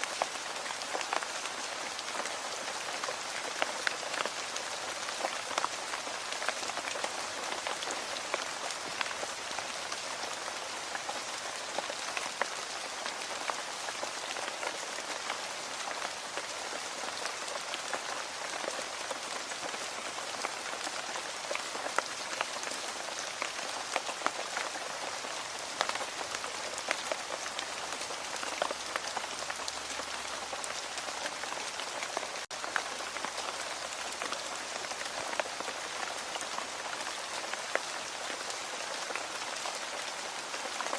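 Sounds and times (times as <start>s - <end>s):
raindrops pattering: 0.0s - 40.9s
steady rain hiss: 0.0s - 40.9s.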